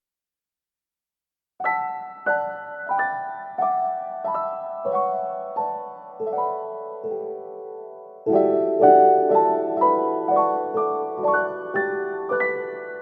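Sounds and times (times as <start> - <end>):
gentle piano music: 1.6 - 13.0.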